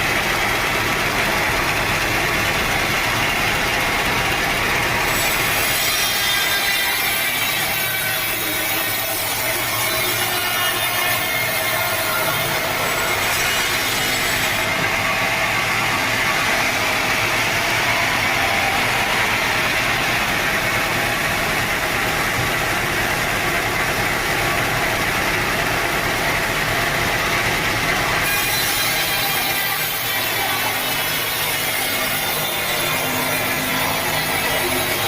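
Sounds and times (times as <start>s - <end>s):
sawmill machinery drone: 0.0s - 35.0s.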